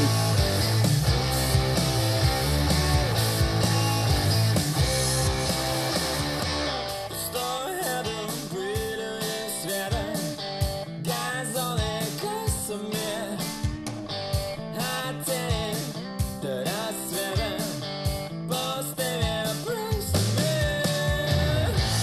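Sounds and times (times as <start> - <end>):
pop-rock music over loudspeakers: 0.0 - 22.0.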